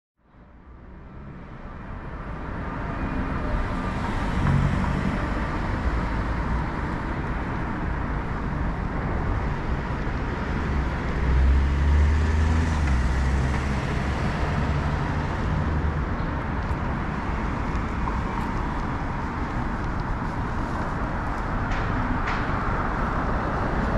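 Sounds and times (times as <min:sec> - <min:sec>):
traffic passing: 0:00.7 - 0:23.9.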